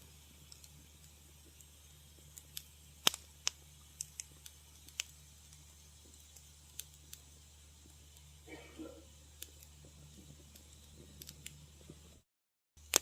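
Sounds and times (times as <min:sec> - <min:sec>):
wood fire crackling: 0:00.0 - 0:12.2, 0:12.8 - 0:13.0.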